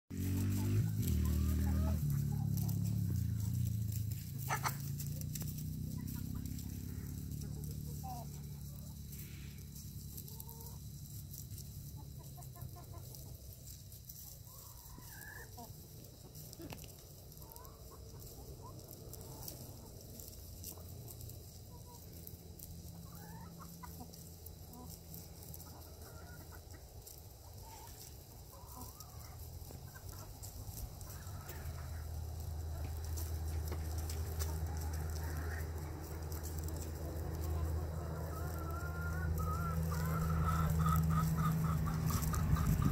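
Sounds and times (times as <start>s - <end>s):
chickens clucking: 0.1s - 42.9s.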